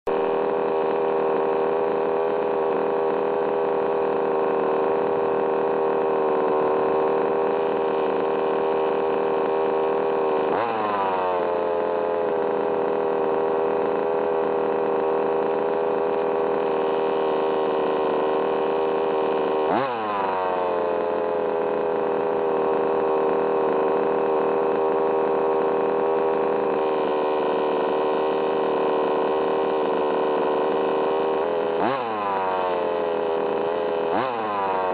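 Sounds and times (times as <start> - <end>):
engine revving: 0.1 - 34.9
small two-stroke engine idling: 0.1 - 34.9.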